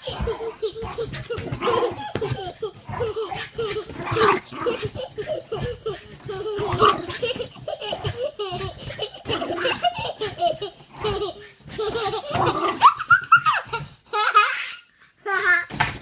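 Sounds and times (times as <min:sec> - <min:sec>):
toddler laughing: 0:00.0 - 0:14.9.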